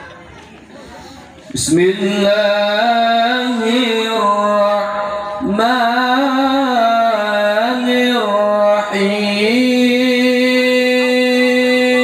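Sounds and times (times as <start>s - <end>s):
man chanting over loudspeakers: 1.5s - 12.0s.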